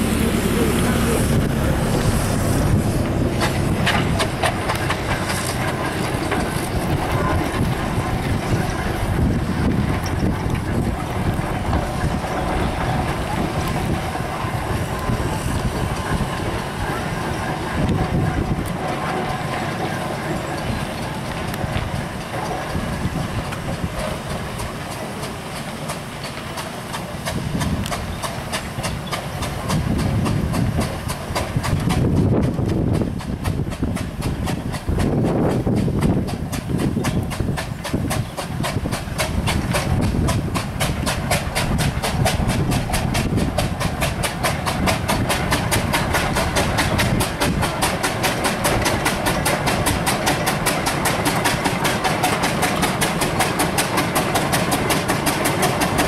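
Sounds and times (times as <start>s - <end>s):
steam engine exhaust chuffing: 0.0s - 56.0s
steam hissing: 0.0s - 56.0s.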